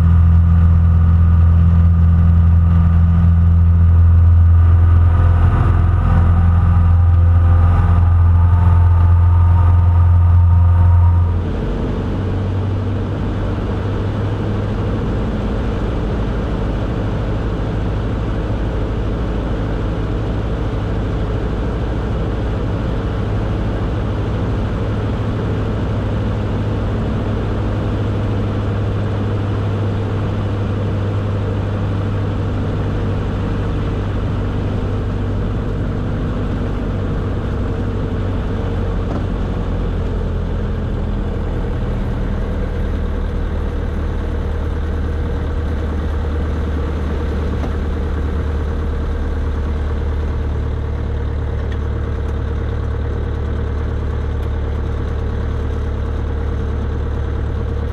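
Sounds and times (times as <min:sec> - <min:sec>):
airplane engine and propeller: 0:00.0 - 0:57.9
rushing noise in cabin: 0:00.0 - 0:57.9.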